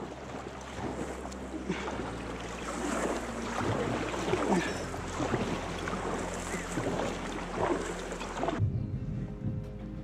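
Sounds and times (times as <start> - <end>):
kayak paddle splashing: 0.0 - 8.6.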